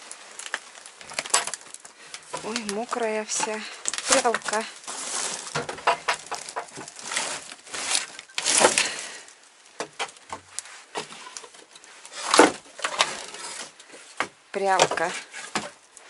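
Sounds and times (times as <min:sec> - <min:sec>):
things rustling and bumping: 0:00.0 - 0:15.9.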